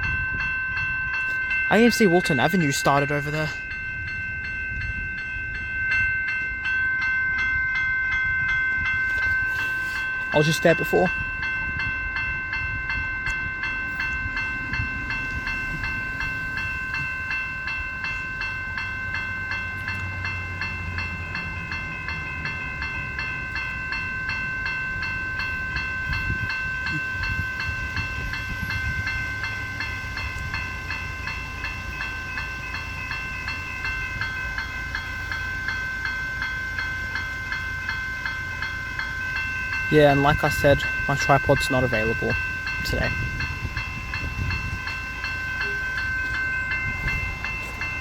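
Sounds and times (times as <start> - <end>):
level crossing bells ringing: 0.0 - 48.0.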